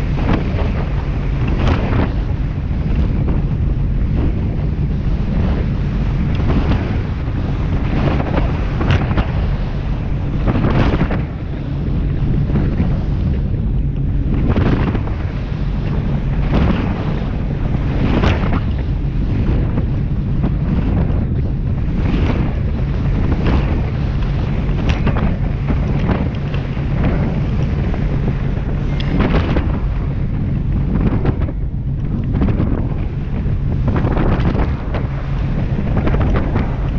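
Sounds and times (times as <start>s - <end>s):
boat hull splashing on waves: 0.0s - 36.9s
low engine drone: 0.0s - 36.9s
wind buffeting microphone: 0.0s - 36.9s.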